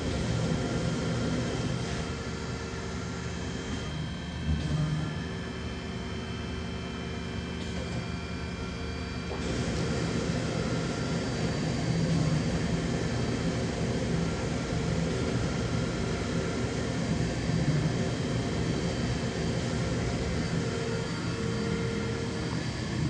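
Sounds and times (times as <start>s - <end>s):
machining centre running: 0.0s - 23.0s.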